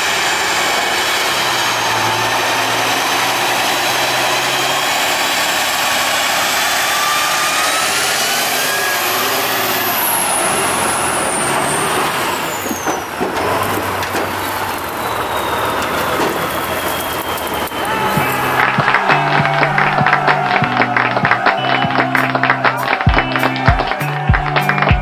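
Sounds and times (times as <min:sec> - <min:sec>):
high whine: 0:00.0 - 0:13.8, 0:14.4 - 0:25.0
truck diesel engine under load: 0:00.0 - 0:25.0.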